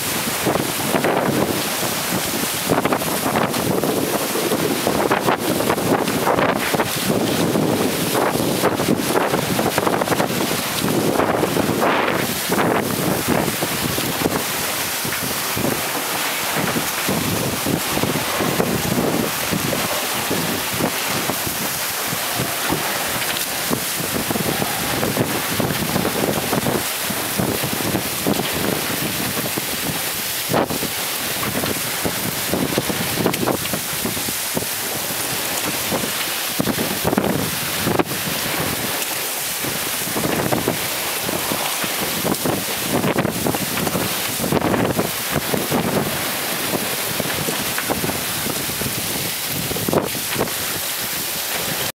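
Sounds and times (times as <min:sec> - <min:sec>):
water splashing against hulls: 0:00.0 - 0:51.9
wind buffeting microphone: 0:00.0 - 0:51.9.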